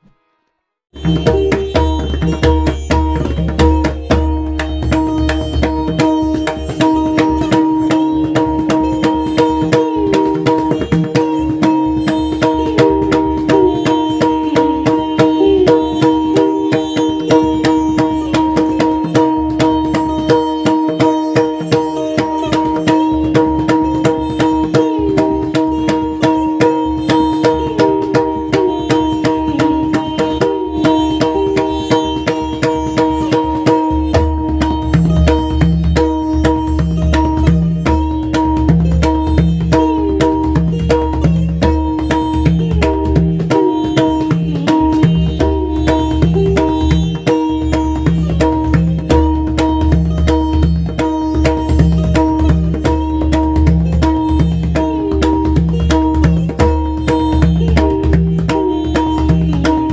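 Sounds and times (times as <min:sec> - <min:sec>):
hand drum fast strokes: 0:01.0 - 0:59.9.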